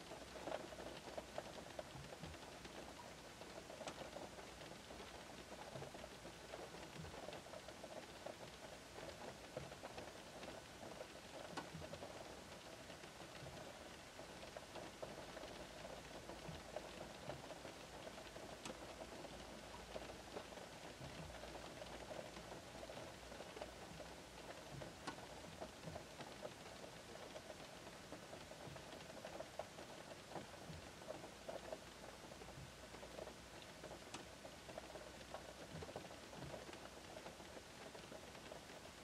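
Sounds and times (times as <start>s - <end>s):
rain pattering on a car roof: 0.0s - 39.0s.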